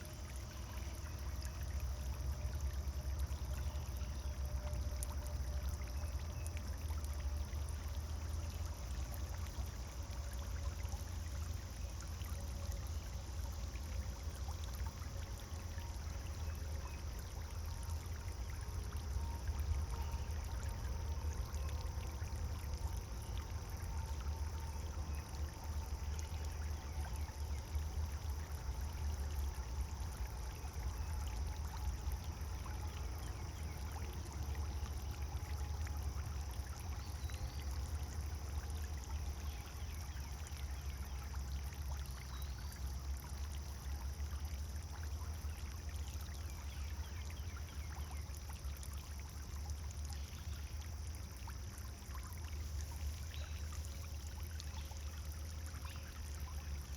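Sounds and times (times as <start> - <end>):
fountain water splashing: 0.0 - 56.9.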